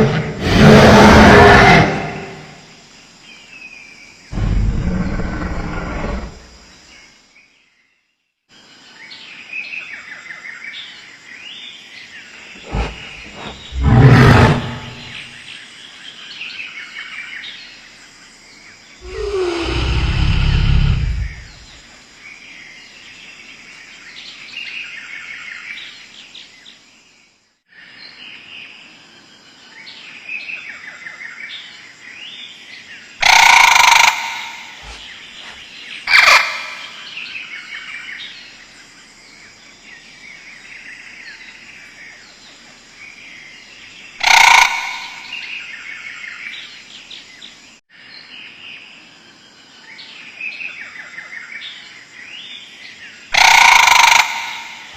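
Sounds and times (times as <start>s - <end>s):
birds chirping and twittering: 0.0s - 27.2s, 27.9s - 54.9s.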